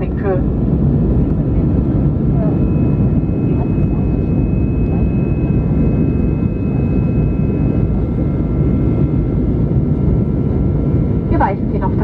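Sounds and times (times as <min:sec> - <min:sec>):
airplane cabin engine rumble: 0:00.0 - 0:12.0
faint high whines: 0:02.1 - 0:12.0.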